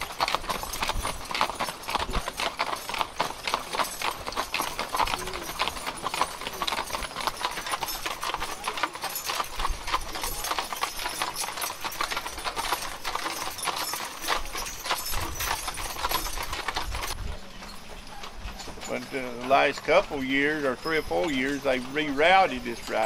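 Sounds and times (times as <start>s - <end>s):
hooves clip-clopping on asphalt: 0.0s - 23.0s.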